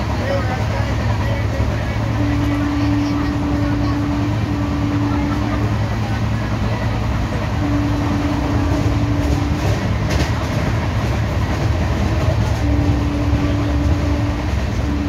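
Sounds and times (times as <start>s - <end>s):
locomotive horn: 0.0s - 10.6s, 11.9s - 15.0s
train wheels rumbling on rail: 0.0s - 15.0s.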